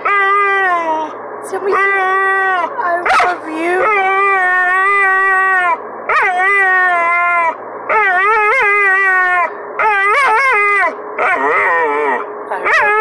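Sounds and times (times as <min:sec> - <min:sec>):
dog howling: 0:00.0 - 0:13.0.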